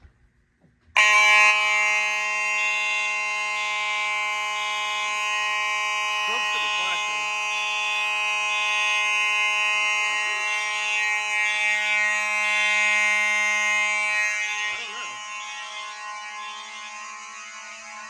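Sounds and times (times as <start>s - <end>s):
steady fire alarm horn: 0.9s - 18.0s
pulsing high alarm tone: 1.0s - 18.0s.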